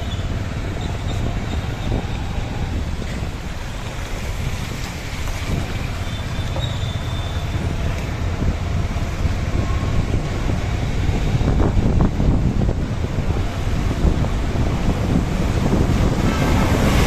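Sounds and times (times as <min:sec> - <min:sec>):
road and traffic noise: 0:00.0 - 0:17.0
wind rumbling on microphone: 0:00.0 - 0:17.0.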